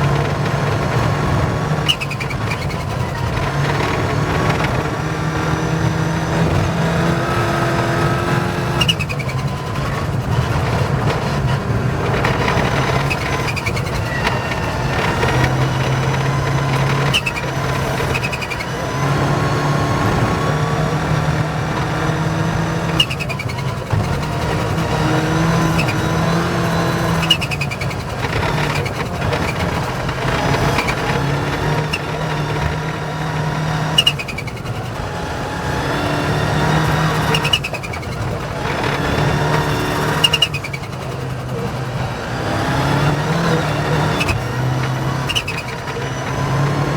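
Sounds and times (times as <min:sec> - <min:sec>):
rally car engine running: 0:00.0 - 0:46.9.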